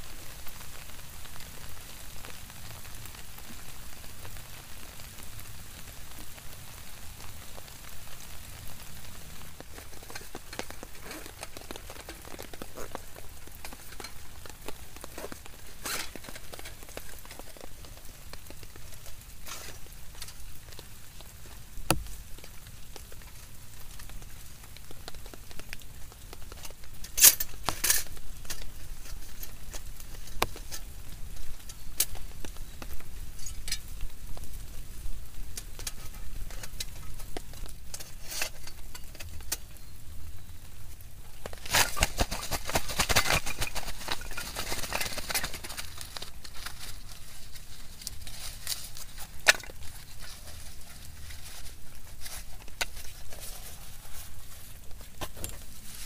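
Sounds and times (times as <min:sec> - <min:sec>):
sharp crackles and clicks: 0:00.0 - 0:56.0
steady rain: 0:00.0 - 0:56.0.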